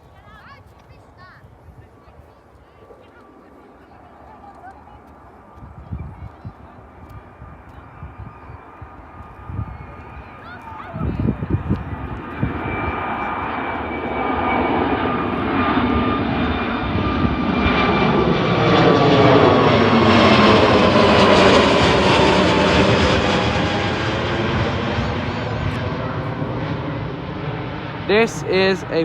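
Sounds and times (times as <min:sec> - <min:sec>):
jet airliner passing: 0:01.6 - 0:29.0
jet engine whine: 0:02.8 - 0:29.0.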